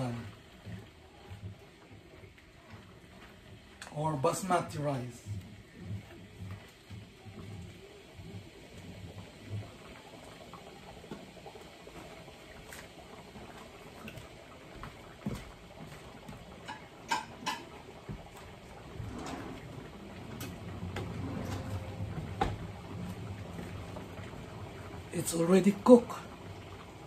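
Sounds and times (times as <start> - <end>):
stew bubbling in a wok: 0.0 - 27.0.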